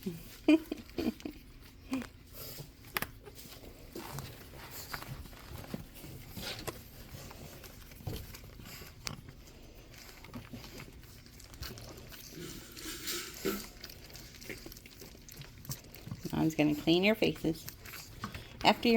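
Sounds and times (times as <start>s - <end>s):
puppies pattering: 0.0s - 18.9s
small clicks and rustles: 0.7s - 18.9s.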